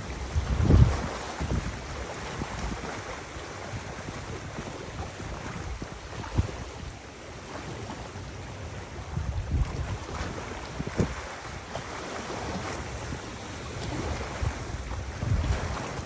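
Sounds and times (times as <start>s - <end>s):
rush of water: 0.0s - 16.0s
wind buffeting the microphone: 0.0s - 16.0s.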